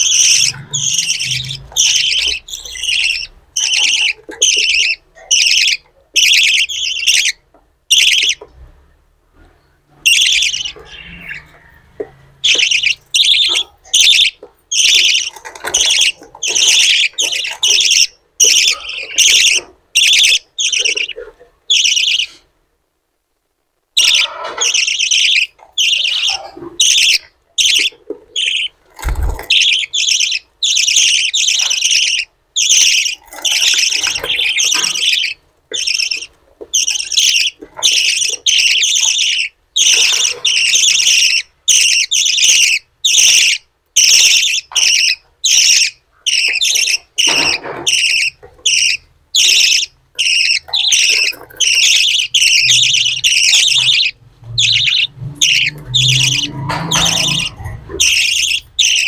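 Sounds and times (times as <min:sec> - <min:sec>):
budgerigar chicks begging calls: 0:00.0 - 0:08.4, 0:09.9 - 0:22.5, 0:23.9 - 0:59.0.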